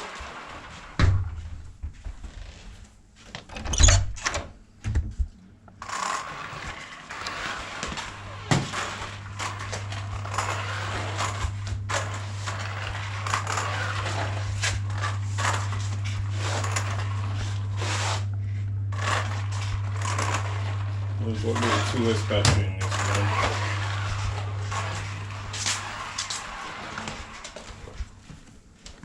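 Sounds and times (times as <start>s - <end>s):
steady low hum: 4.1s - 29.0s.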